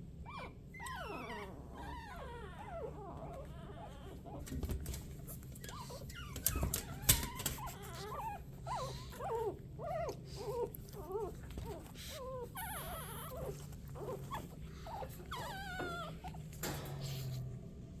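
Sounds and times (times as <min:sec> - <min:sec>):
puppies whimpering: 0:00.2 - 0:17.5.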